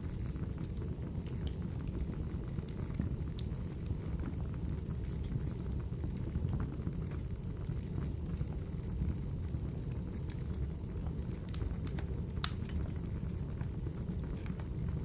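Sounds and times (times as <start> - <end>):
fire crackling and popping: 0.0 - 15.0
low rumble of burning: 0.0 - 15.0.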